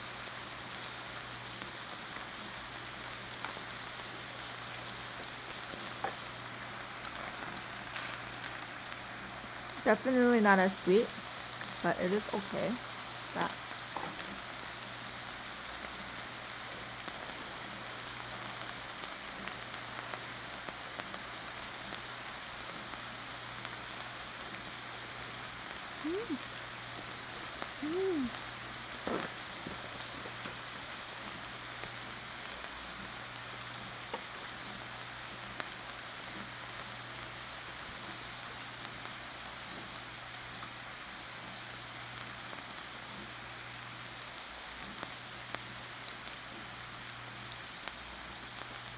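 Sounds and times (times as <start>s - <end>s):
beef sizzling in a frying pan: 0.0s - 48.9s.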